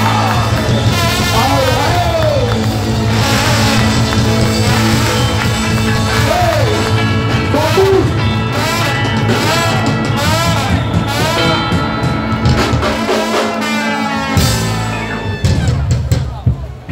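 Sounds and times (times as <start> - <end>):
live ska band playing: 0.0 - 16.9.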